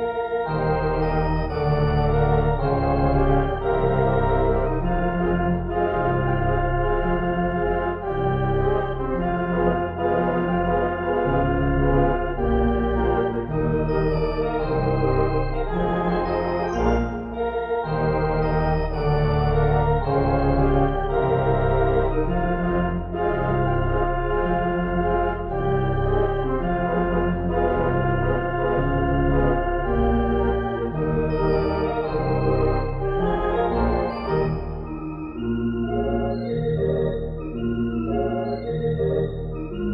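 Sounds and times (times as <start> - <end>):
theatre organ playing: 0.0 - 39.9.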